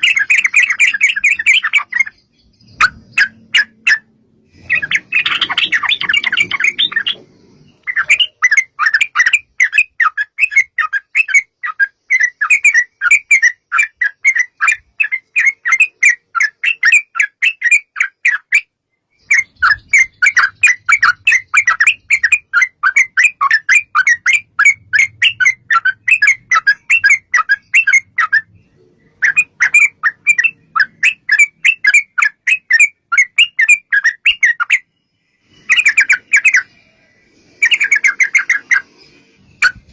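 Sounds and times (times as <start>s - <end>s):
bird chattering calls: 0.0s - 18.6s, 19.2s - 34.9s.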